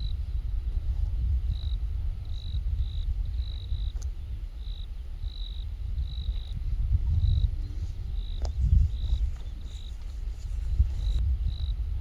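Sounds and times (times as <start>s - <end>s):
crickets trilling: 0.0s - 12.0s
steady low rumble: 0.0s - 12.0s.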